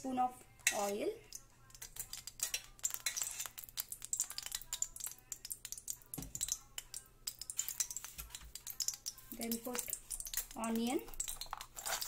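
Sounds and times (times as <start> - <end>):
soft background music: 0.0 - 12.0
hot oil crackling: 0.5 - 12.0.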